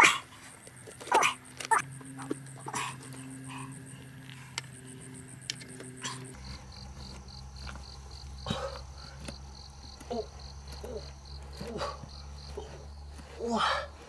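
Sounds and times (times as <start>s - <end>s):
insects chirping in pulses: 0.0s - 14.0s.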